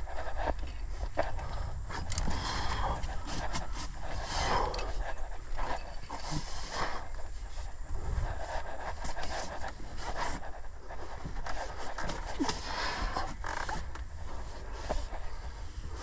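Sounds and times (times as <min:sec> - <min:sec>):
heavy breathing: 0:00.0 - 0:16.0
shoes and rope scraping on rock: 0:00.0 - 0:16.0.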